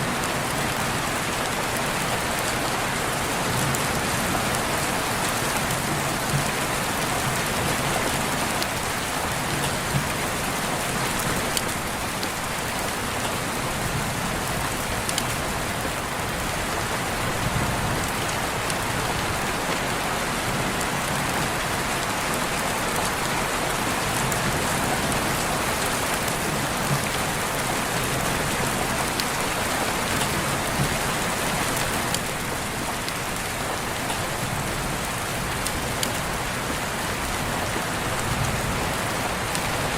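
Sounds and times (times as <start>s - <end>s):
raindrops pattering: 0.0s - 39.9s
steady rain: 0.0s - 39.9s.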